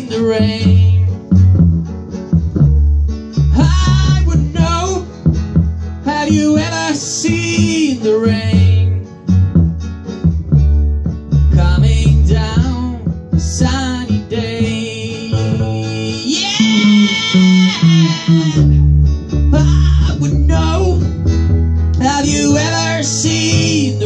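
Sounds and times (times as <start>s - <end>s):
acoustic guitar strumming: 0.0s - 24.0s
deep bass notes: 0.0s - 24.0s.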